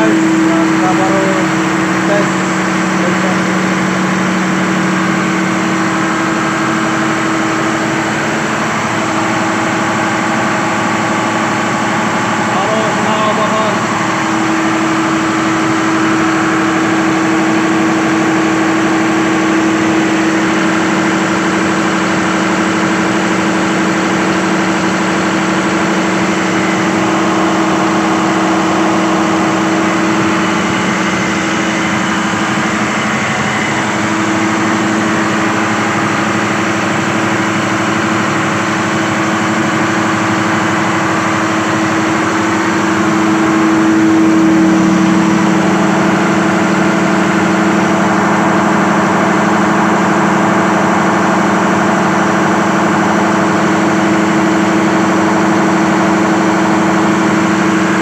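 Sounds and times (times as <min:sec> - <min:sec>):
diesel engine running steadily: 0:00.0 - 0:58.0.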